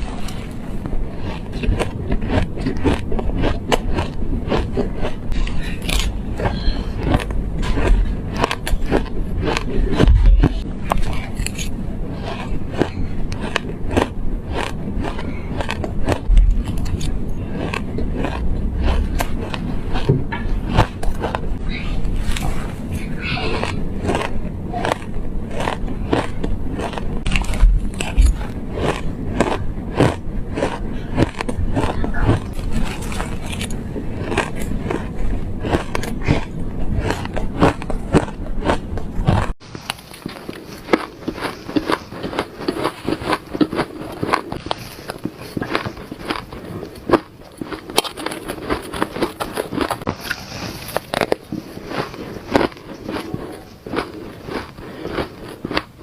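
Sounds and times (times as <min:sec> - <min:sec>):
ice being chewed with crunches: 0:00.0 - 0:56.0.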